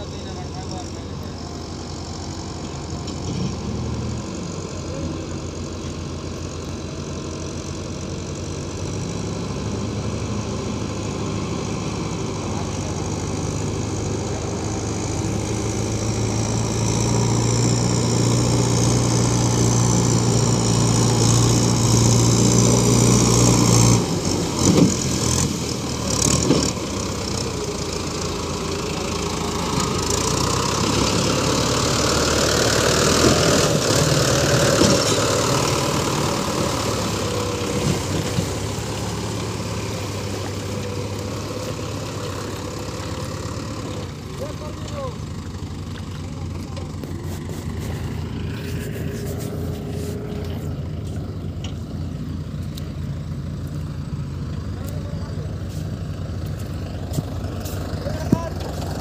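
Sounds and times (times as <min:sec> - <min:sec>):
tractor diesel engine running: 0:00.0 - 0:59.0
water churning around wheels: 0:00.0 - 0:59.0.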